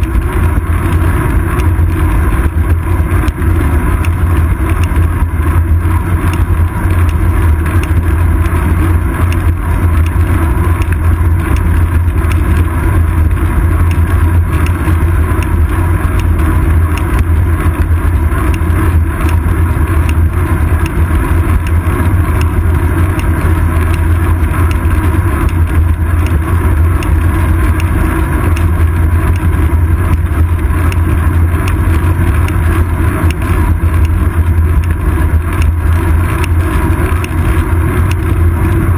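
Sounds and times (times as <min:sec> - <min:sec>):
bicycle road vibration: 0:00.0 - 0:38.9
wind rumble: 0:00.0 - 0:38.9.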